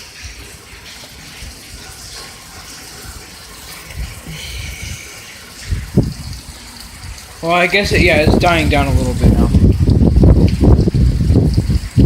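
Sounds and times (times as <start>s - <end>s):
rain falling: 0.0s - 12.0s
water gushing and running off: 0.0s - 12.0s.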